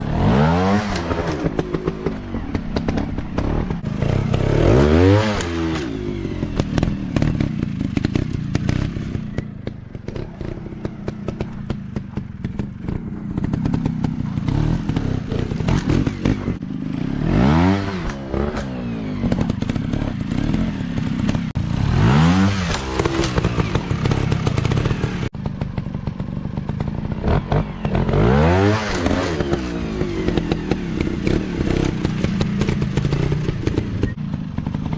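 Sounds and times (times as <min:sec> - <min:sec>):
dirt bike engines revving: 0:00.0 - 0:25.7, 0:26.6 - 0:34.9.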